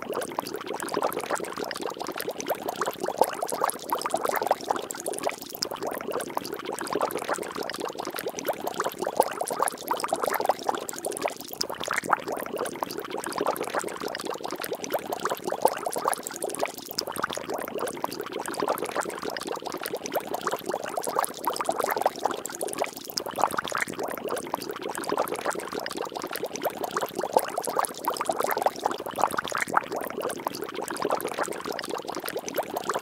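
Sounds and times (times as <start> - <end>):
liquid bubbling and splashing: 0.0 - 33.0.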